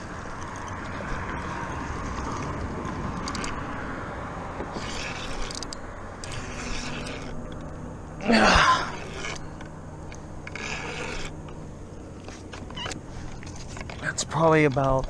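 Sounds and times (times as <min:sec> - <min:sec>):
fishing reel scrapes and clicks: 0:00.0 - 0:03.8, 0:04.6 - 0:15.0.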